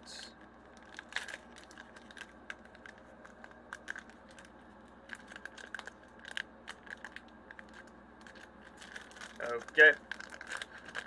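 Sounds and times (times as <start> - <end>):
foil wrapper crinkling and tearing: 0.6 - 11.0.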